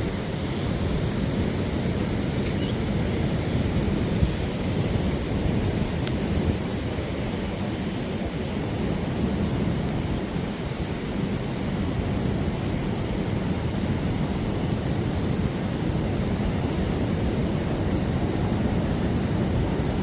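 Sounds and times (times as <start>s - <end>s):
ocean surf: 0.0s - 20.0s
rain: 0.0s - 20.0s
wind: 0.0s - 20.0s.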